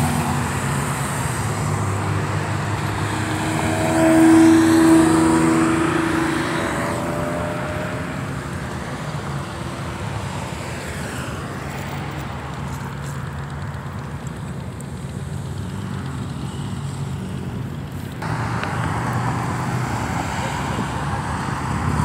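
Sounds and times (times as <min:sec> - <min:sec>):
cars and trucks driving past: 0:00.0 - 0:22.0.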